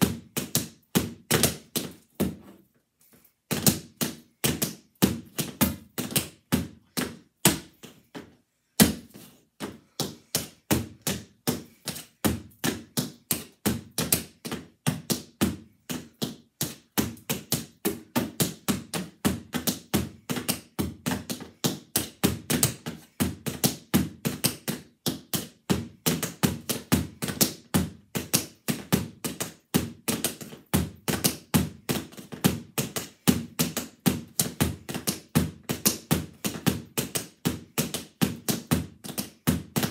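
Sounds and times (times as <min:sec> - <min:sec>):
tap shoes on tap mat: 0:00.0 - 0:02.6, 0:03.5 - 0:39.9.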